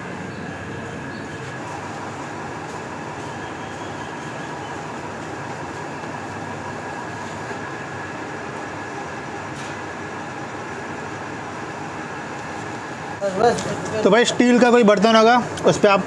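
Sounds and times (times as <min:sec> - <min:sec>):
faint steady whine: 0:00.0 - 0:16.0
machine droning: 0:00.0 - 0:16.0.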